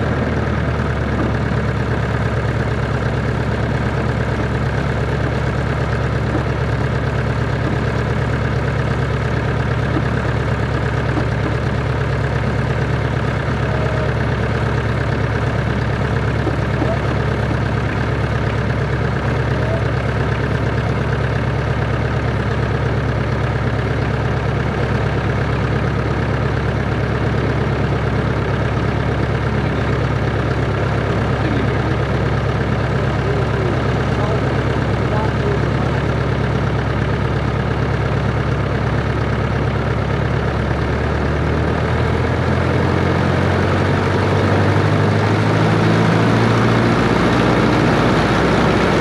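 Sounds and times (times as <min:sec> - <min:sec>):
propeller aircraft engine drone: 0:00.0 - 0:49.0.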